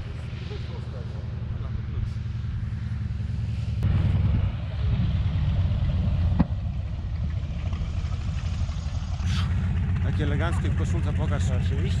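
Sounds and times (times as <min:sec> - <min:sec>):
biplane engine droning: 0:00.0 - 0:12.0.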